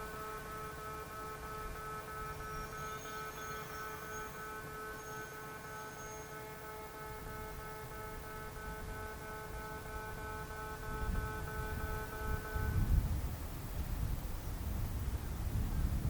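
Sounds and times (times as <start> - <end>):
pulsing tone: 0.0 - 13.0
electrical hum with held tones: 0.0 - 16.0.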